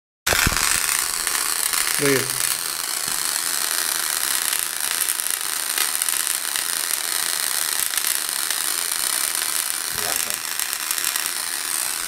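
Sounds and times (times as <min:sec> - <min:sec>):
tesla coil spark crackling: 0:00.3 - 0:12.0.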